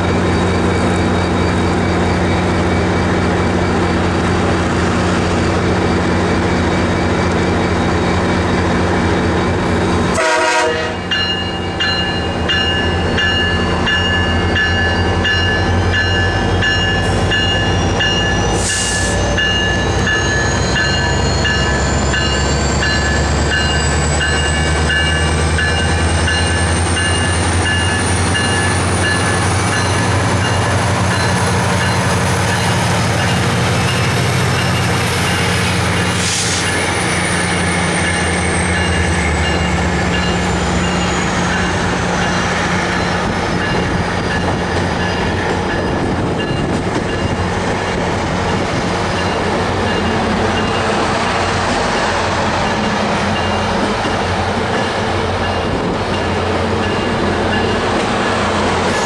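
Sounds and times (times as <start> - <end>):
diesel locomotive engine drone: 0.0 - 59.0
train wheels rolling on rails: 0.0 - 59.0.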